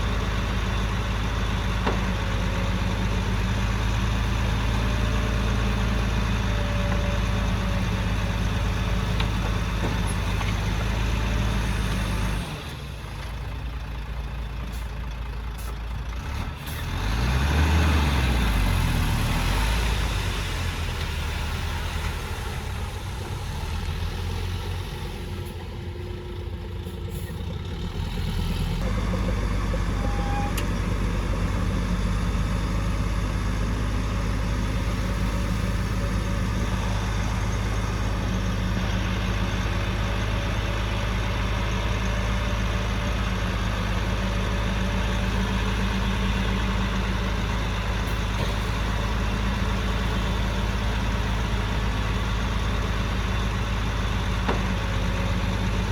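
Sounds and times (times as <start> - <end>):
heavy machinery diesel engines: 0.0 - 55.9.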